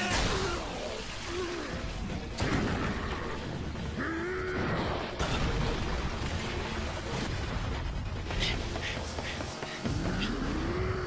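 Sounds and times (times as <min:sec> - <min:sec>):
crashes and mechanical noise: 0:00.0 - 0:11.0.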